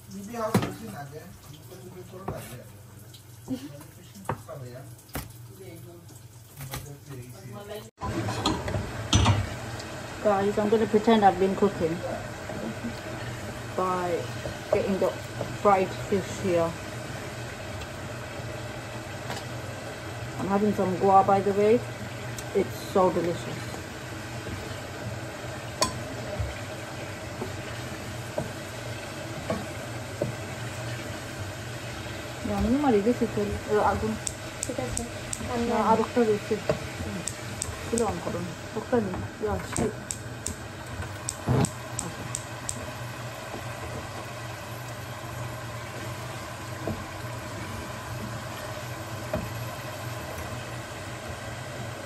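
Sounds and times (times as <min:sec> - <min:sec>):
food sizzling in a frying pan: 0:00.0 - 0:52.0
low mechanical hum: 0:00.0 - 0:52.0.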